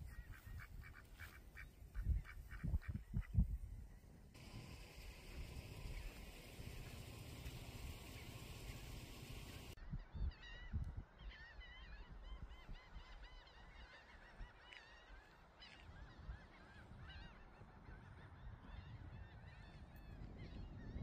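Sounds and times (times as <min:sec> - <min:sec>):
faint birds calling: 0:00.0 - 0:21.0.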